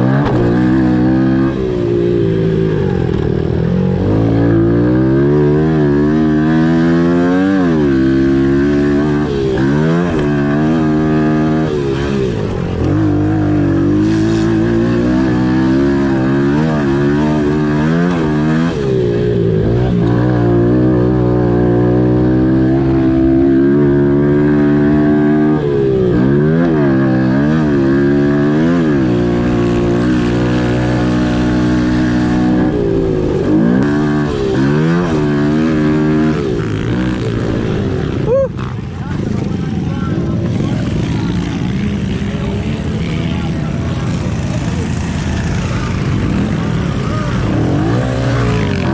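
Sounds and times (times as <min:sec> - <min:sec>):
small motorcycle engine revving: 0:00.0 - 0:48.9.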